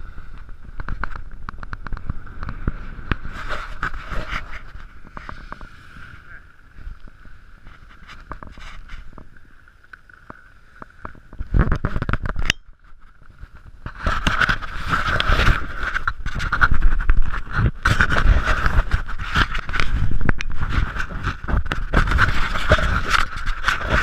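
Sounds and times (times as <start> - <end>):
wind on microphone: 0.0 - 9.7, 10.3 - 24.0
skis scraping on snow: 2.0 - 11.6, 13.2 - 24.0.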